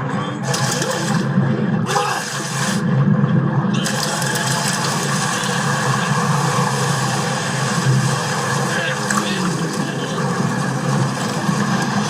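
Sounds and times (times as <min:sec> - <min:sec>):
rushing churning water: 0:00.4 - 0:12.0.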